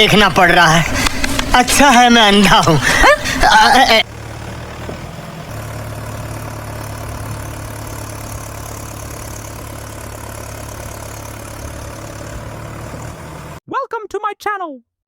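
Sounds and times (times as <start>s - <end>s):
tractor diesel engine running: 0.0s - 13.6s.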